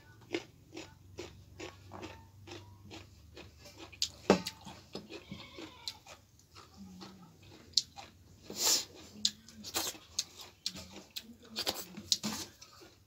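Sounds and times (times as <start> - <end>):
wet chewing and lip smacks: 0.3 - 12.3.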